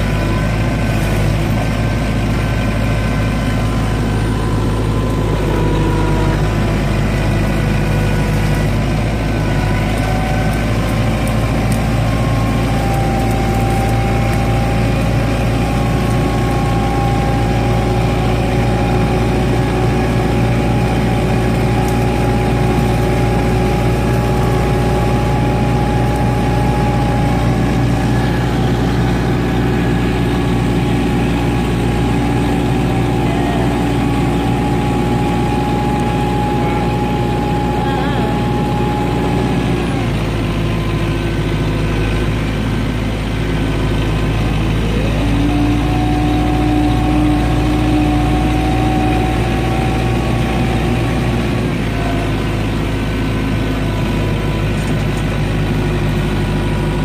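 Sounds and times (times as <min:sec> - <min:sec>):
engine whine: 0:00.0 - 0:57.0
tractor diesel engine running: 0:00.0 - 0:57.0.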